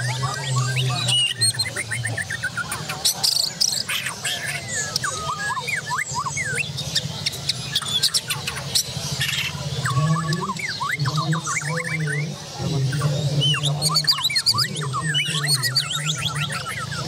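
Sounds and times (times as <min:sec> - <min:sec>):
songbirds singing: 0:00.0 - 0:17.0.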